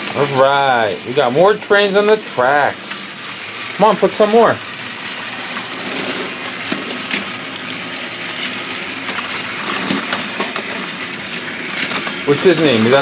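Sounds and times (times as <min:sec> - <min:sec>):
toy train motors whirring: 0:00.0 - 0:13.0.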